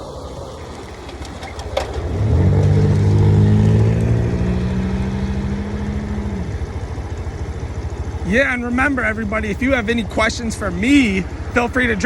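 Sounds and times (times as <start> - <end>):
motorcycle engine drone: 0.0 - 12.0.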